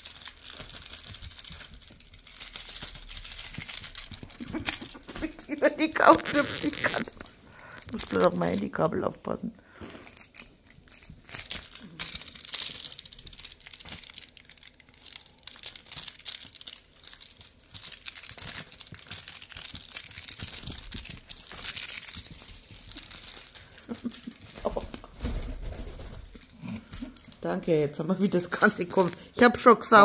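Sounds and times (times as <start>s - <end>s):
parrot tearing paper: 0.0s - 8.7s, 9.7s - 29.3s.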